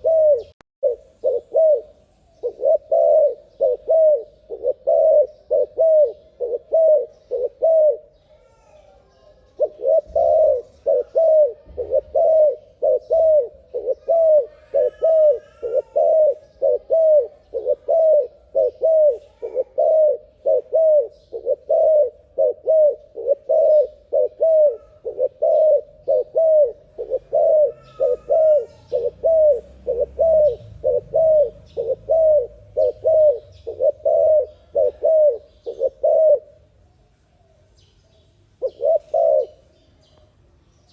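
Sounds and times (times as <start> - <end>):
dove cooing: 0.0 - 36.7, 38.6 - 39.8
faint bird chirps: 0.0 - 40.9.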